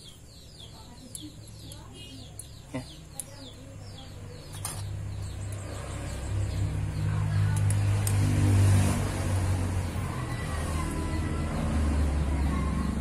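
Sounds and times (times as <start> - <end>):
low engine hum: 1.5 - 13.0.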